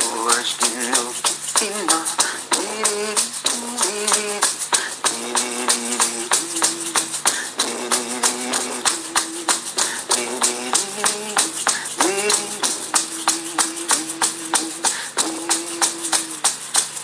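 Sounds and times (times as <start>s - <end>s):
voice chanting long notes: 0.0s - 16.8s.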